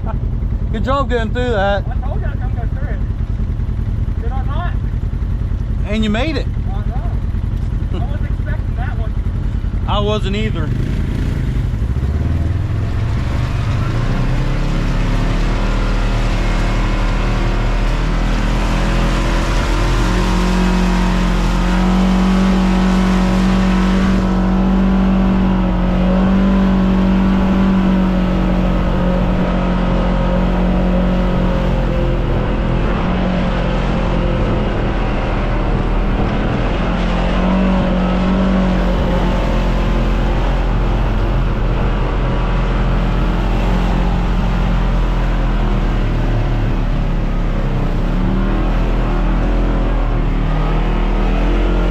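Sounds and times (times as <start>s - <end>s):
vehicle engine droning: 0.0s - 51.9s.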